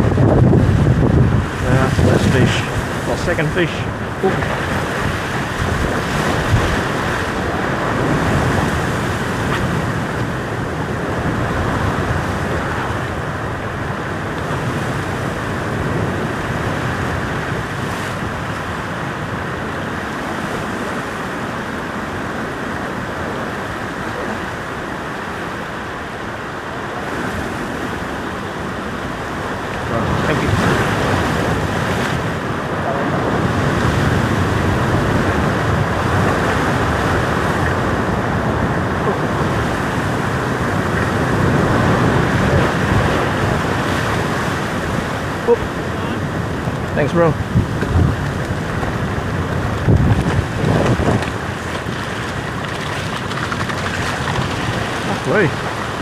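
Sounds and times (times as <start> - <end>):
surf washing against rocks: 0.0 - 56.0
wind buffeting microphone: 0.0 - 56.0.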